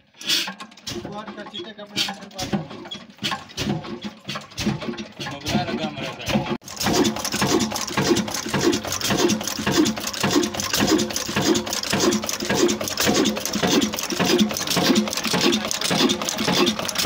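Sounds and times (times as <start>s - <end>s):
metallic clatter: 0.0s - 17.0s
diesel engine running slowly: 0.8s - 17.0s.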